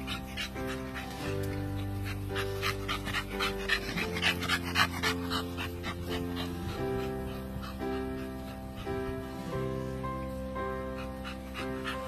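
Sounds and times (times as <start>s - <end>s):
background music with held notes: 0.0s - 12.0s
dogs panting: 0.0s - 12.0s.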